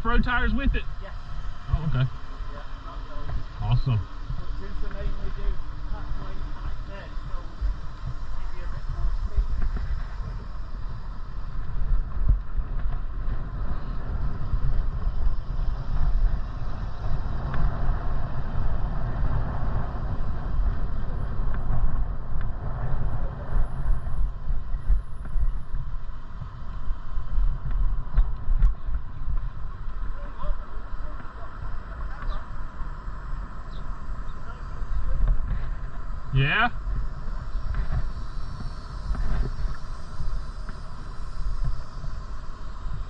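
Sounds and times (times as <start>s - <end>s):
road noise: 0.0s - 43.0s
wind buffeting microphone: 0.0s - 43.0s.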